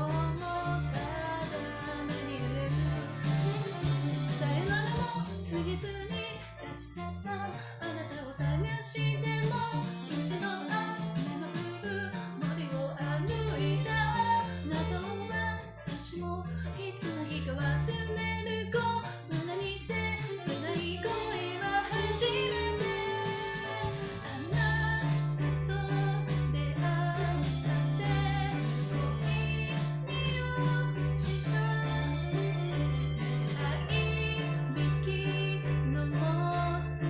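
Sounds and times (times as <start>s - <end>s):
woman singing pop song: 0.0s - 32.7s, 33.4s - 37.0s.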